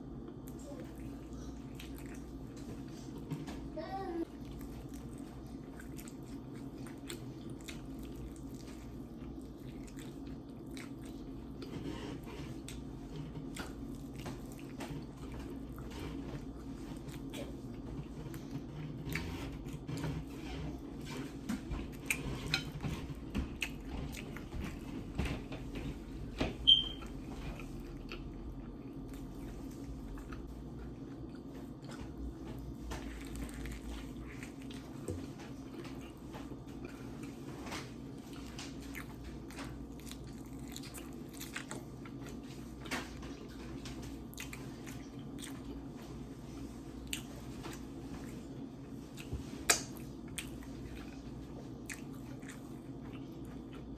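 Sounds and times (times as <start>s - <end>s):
person chewing crunchy food: 0.1s - 2.6s, 4.4s - 26.3s, 27.0s - 53.9s.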